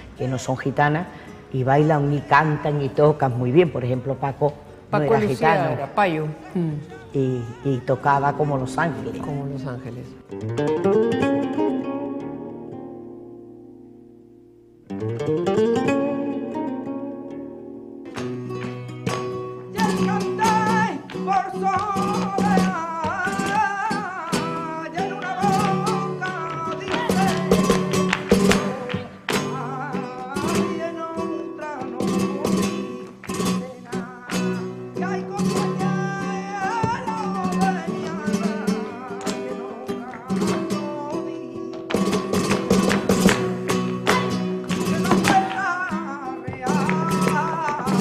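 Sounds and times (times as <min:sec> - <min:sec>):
flamenco guitar: 0:00.0 - 0:48.0.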